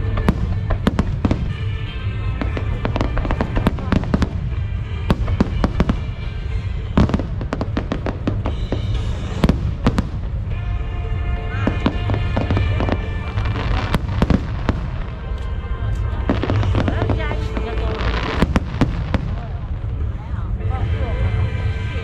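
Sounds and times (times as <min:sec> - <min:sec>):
fireworks bangs and crackles: 0:00.0 - 0:22.0
low rumble: 0:00.0 - 0:22.0
music playing: 0:00.0 - 0:22.0.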